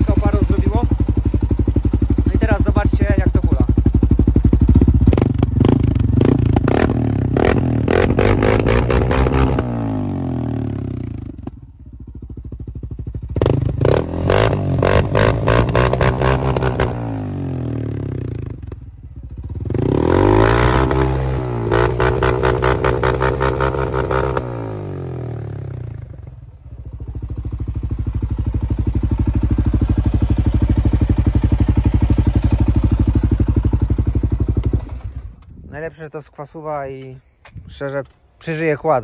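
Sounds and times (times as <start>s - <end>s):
atv engine revving: 0.0s - 35.4s.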